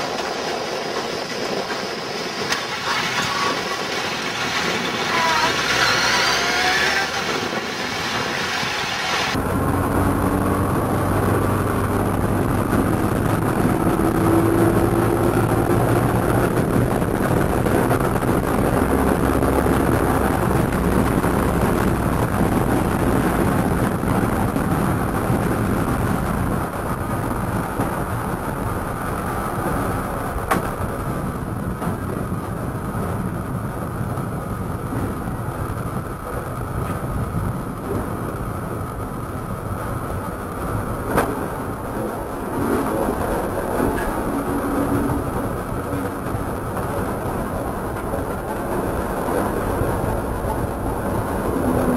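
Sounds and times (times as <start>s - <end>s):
wind rush: 0.0s - 51.9s.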